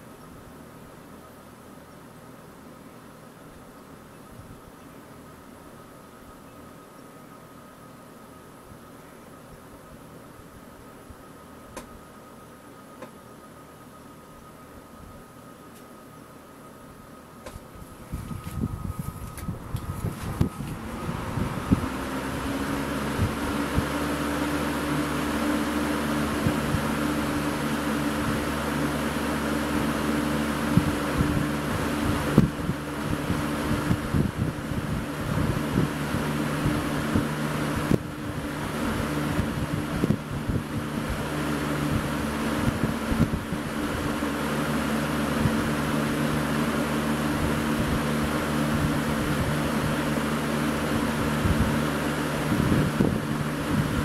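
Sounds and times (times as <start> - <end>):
box fan running: 0.0 - 54.0.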